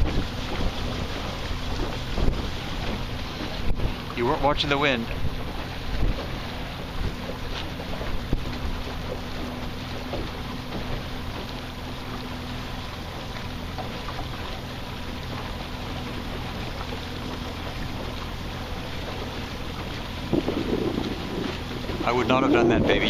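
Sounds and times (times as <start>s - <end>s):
motorboat engine hum: 0.0s - 23.0s
water noise: 0.0s - 23.0s
wind: 0.0s - 23.0s.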